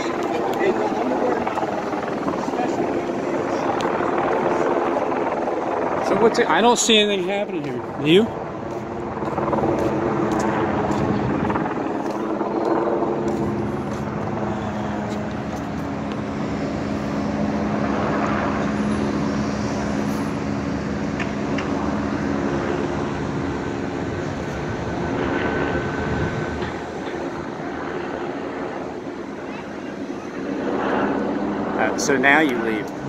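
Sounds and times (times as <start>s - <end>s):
helicopter engine and rotor drone: 0.0s - 33.0s
street traffic: 0.0s - 33.0s.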